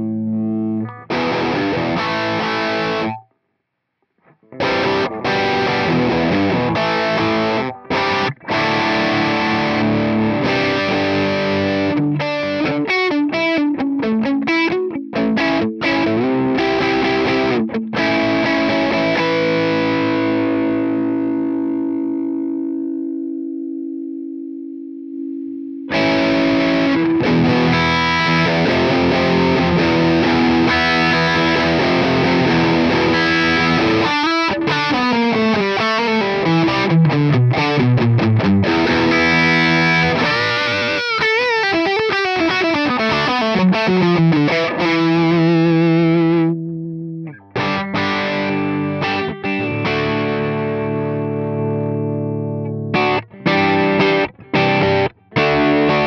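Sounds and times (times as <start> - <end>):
distorted electric guitar: 0.0 - 3.4, 4.1 - 56.0.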